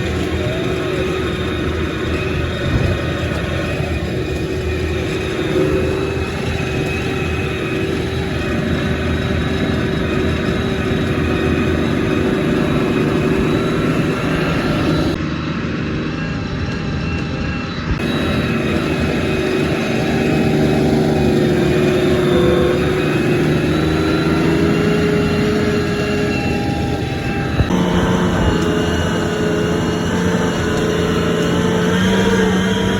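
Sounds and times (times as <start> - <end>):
tank engine running: 0.0 - 32.9.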